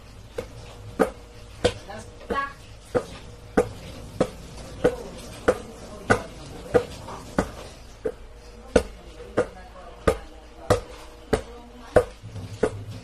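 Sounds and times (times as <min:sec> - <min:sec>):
basketball bouncing on floor: 0:00.3 - 0:13.0.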